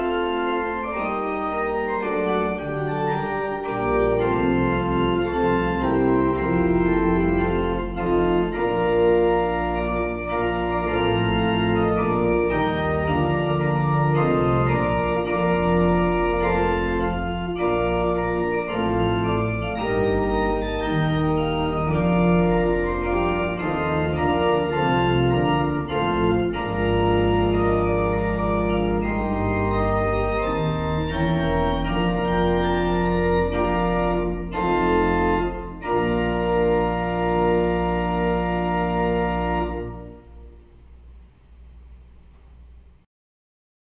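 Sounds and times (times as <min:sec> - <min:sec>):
church pipe organ playing: 0:00.0 - 0:41.2.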